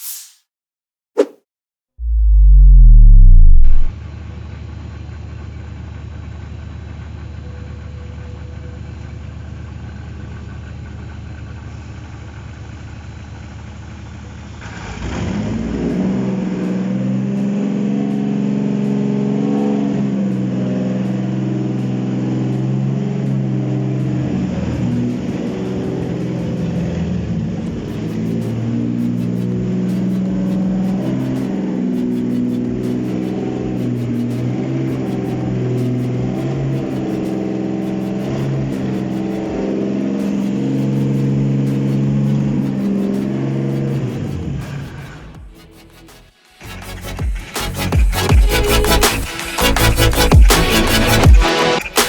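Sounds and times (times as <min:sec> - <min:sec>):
engine running: 0:02.0 - 0:45.4.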